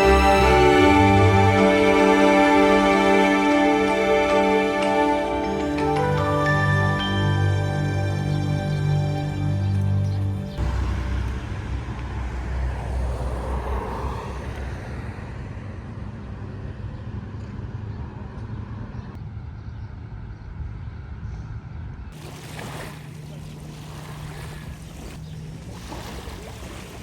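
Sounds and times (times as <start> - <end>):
road vehicle rumble: 0.0 - 27.0.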